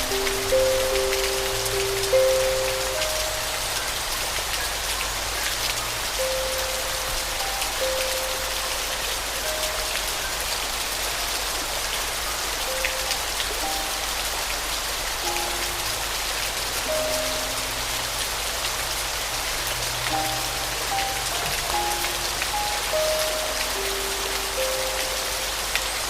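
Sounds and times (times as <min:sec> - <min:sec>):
soft piano notes: 0:00.0 - 0:26.0
steady rain falling: 0:00.0 - 0:26.0.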